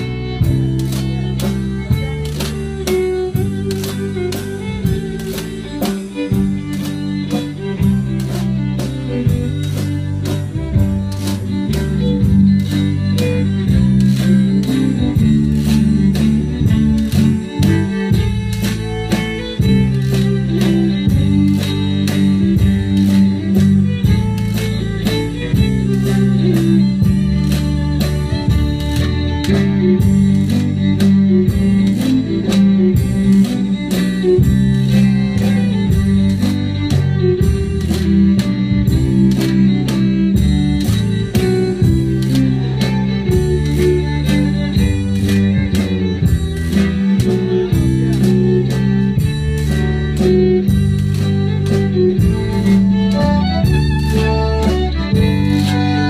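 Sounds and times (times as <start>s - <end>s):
accordion: 0.0s - 56.0s
drums: 0.0s - 56.0s
fiddle: 0.0s - 56.0s.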